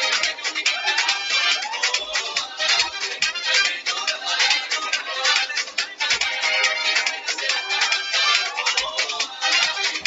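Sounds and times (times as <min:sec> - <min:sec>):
dance music with bass beat: 0:00.0 - 0:10.0.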